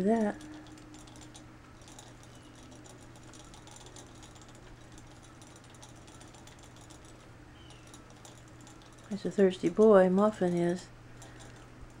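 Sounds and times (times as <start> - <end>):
squirrel lapping metal spout: 0.0 - 12.0.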